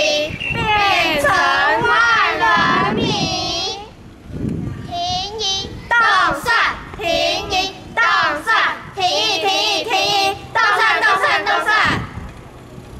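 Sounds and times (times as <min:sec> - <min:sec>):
children chanting in unison: 0:00.0 - 0:03.9, 0:05.4 - 0:12.0.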